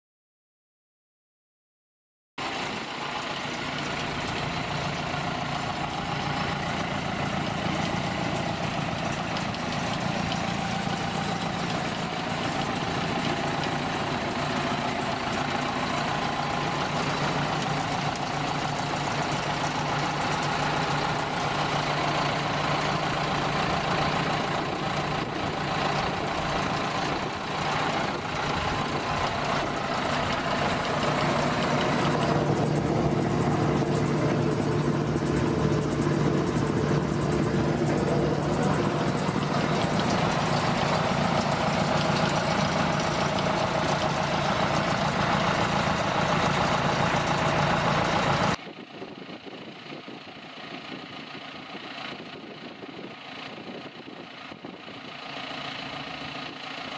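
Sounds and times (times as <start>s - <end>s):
wood chipper and tractor engine humming: 2.4s - 56.9s.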